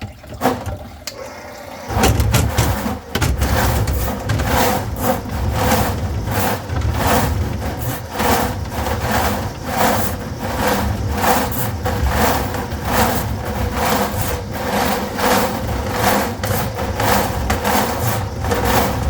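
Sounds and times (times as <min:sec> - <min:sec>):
drain-cleaning machine motor hum: 0:00.0 - 0:19.0
cable rattling and scraping: 0:01.9 - 0:19.0.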